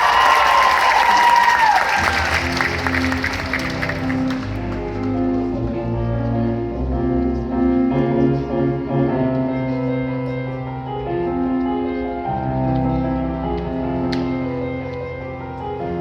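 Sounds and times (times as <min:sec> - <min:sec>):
wind ensemble with piano: 0:00.0 - 0:16.0.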